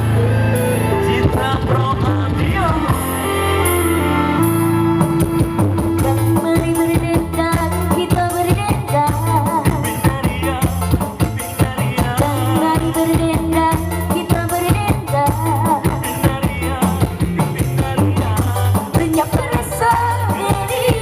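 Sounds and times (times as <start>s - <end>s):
live band music: 0.0s - 21.0s
person singing: 0.0s - 21.0s.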